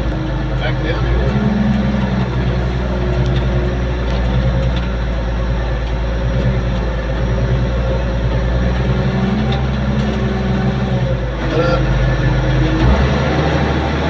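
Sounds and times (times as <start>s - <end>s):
loader engine running: 0.0s - 14.0s.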